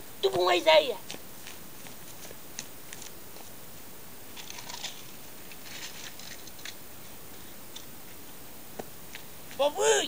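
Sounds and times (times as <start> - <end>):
steady hiss: 0.0 - 10.0
faint rustling and crackling: 1.0 - 9.6.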